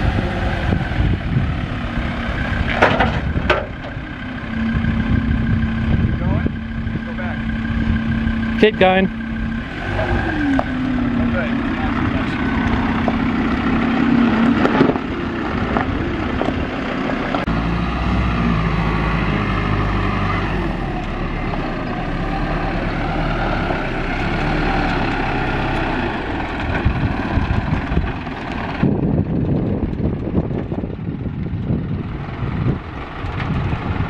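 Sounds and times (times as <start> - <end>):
off-road vehicle engine droning: 0.0 - 34.0
truck diesel engine: 0.0 - 34.0.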